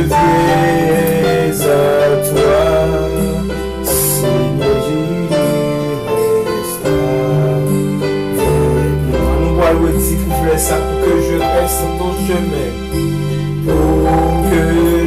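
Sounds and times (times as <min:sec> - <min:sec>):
gospel hymn singing: 0:00.0 - 0:15.0
keyboard accompaniment: 0:00.0 - 0:15.0.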